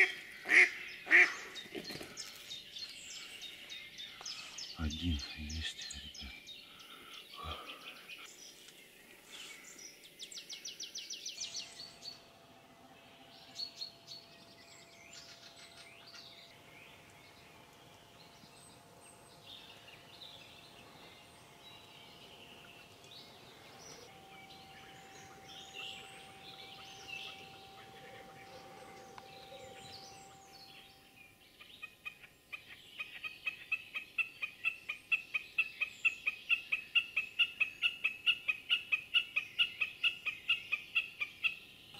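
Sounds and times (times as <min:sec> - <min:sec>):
birds chirping and trilling: 0:00.0 - 0:41.9
loud regular bird calls: 0:00.0 - 0:41.9.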